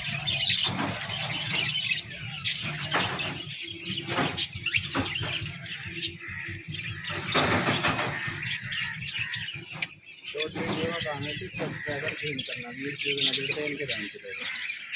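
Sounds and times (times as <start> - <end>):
parrots calling: 0.0 - 14.9.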